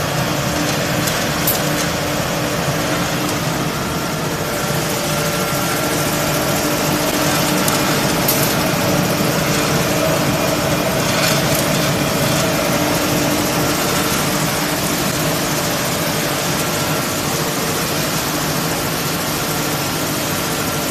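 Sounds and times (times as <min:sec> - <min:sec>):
machinery drone: 0:00.0 - 0:19.8
constant hum tones: 0:00.0 - 0:20.9.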